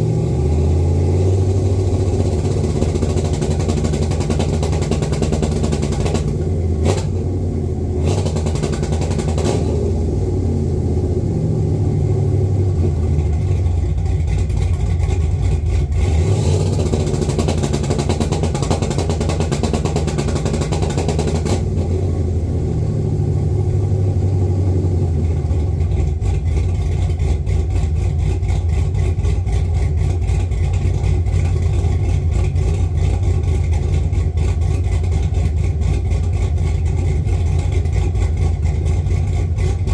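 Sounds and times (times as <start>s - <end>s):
car engine revving: 0.0s - 39.9s
engine crackling stutter: 0.0s - 39.9s.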